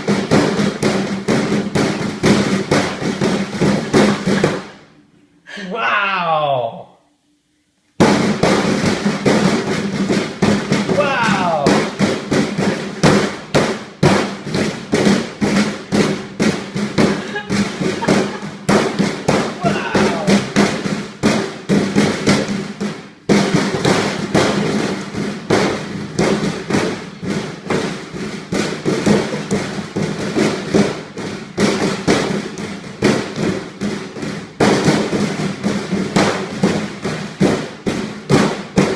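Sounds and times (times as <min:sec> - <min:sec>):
rapid banging and thumping: 0:00.0 - 0:04.8, 0:08.0 - 0:38.9.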